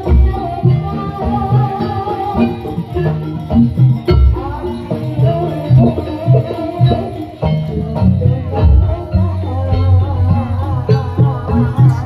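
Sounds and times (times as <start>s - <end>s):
drums: 0.0s - 12.0s
tuned metal percussion: 0.0s - 12.0s.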